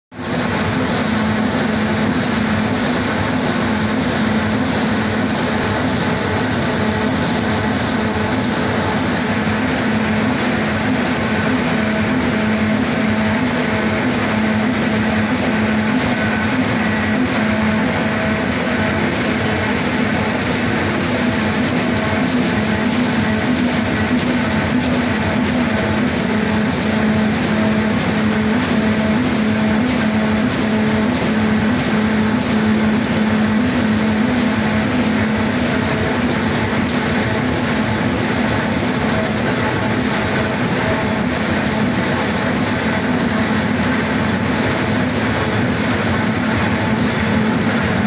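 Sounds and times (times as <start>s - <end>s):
machine low hum: 0.2s - 48.0s
printing machine clatter: 0.2s - 48.0s.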